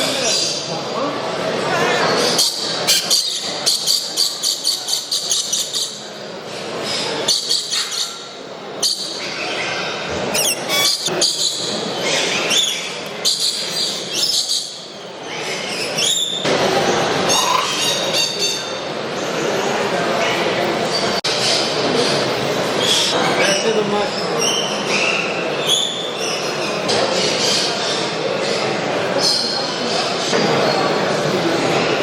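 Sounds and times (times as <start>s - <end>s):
caged birds chirping and calling: 0.0s - 32.0s
murmur of voices: 0.0s - 32.0s.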